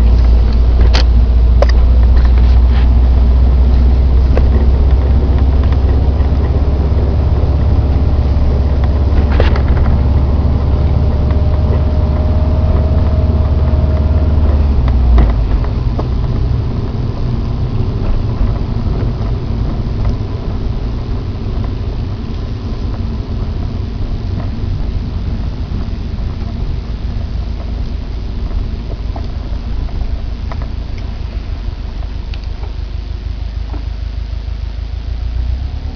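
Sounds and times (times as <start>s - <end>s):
car engine low rumble: 0.0s - 35.9s
faint steady whine: 0.0s - 35.9s.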